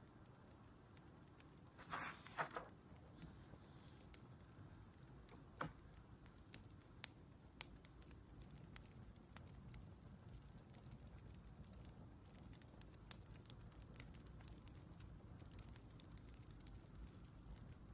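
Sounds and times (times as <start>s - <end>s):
soft low hiss: 0.0s - 17.9s
wood fire crackling: 0.2s - 17.9s.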